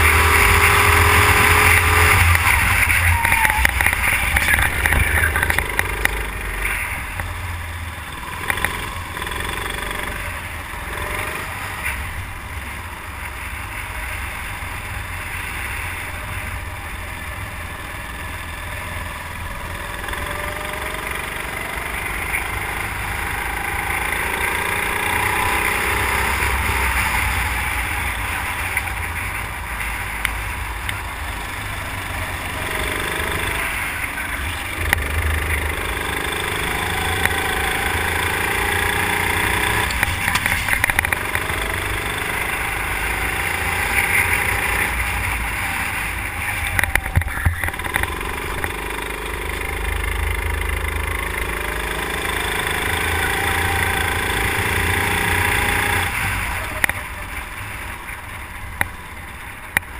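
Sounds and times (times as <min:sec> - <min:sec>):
go-kart engine: 0:00.0 - 0:59.9.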